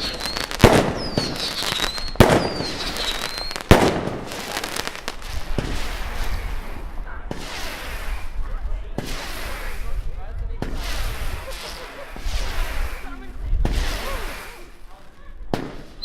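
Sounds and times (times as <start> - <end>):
fireworks bangs: 0.0 - 16.0
fireworks crackling and pops: 0.0 - 16.0.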